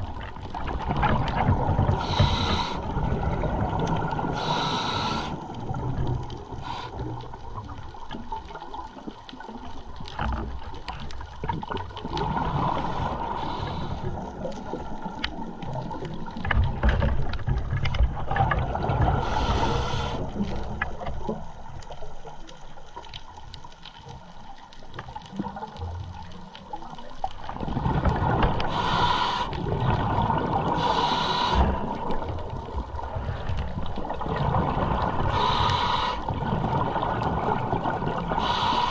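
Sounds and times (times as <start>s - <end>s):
muffled underwater rumble: 0.0s - 38.9s.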